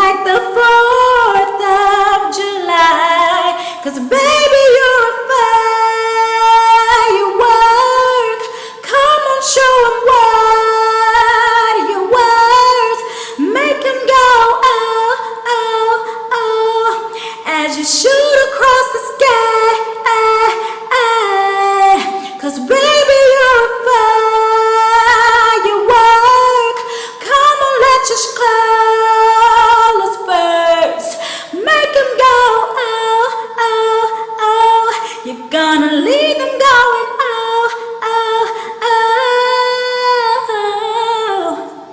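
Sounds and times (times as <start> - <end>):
woman singing a cappella: 0.0 - 41.9.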